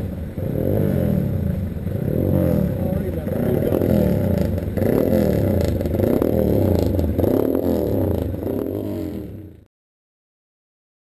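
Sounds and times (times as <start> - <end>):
vehicle engine running and rattling: 0.0 - 9.6.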